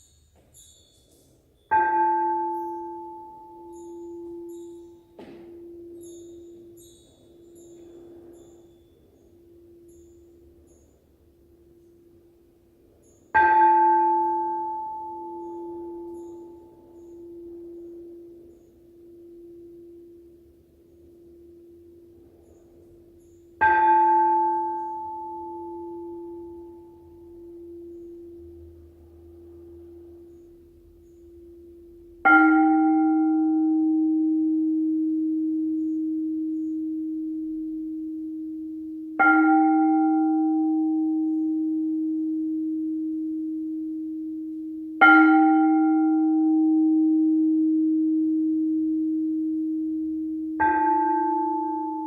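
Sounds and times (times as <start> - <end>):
crystal singing bowls ringing: 0.0 - 52.0.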